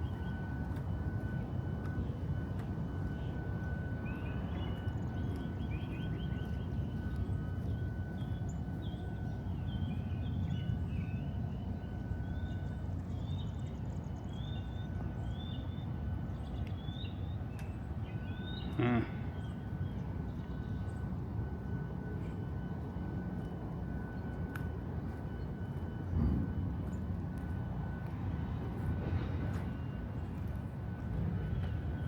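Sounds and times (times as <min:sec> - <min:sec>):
faint high whine: 0:00.0 - 0:32.0
steady low rumble: 0:00.0 - 0:32.0.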